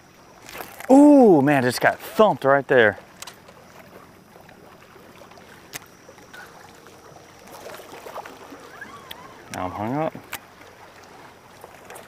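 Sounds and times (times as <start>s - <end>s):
waves lapping against boat hull: 0.0s - 12.0s.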